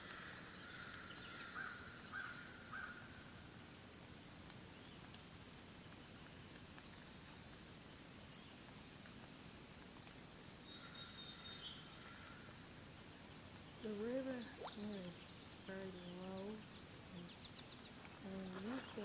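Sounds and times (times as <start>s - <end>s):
shrill insect chorus: 0.0s - 19.0s.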